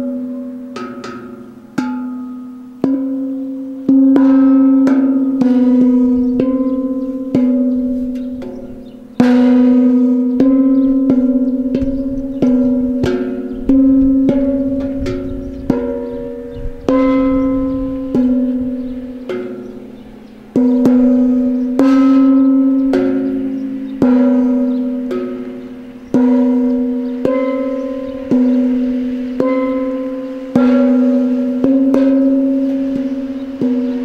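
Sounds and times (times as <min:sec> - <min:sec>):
bells tolling: 0:00.0 - 0:34.0.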